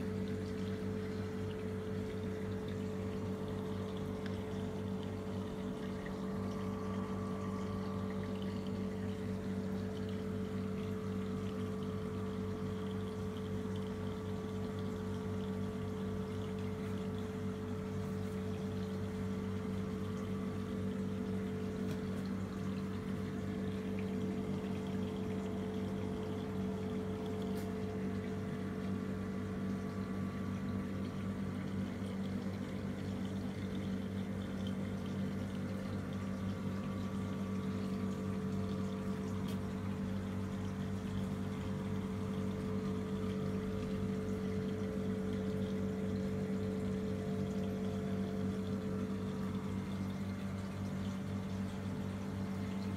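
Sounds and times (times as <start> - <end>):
circulating water rushing: 0.0 - 52.9
water pumps humming: 0.0 - 52.9.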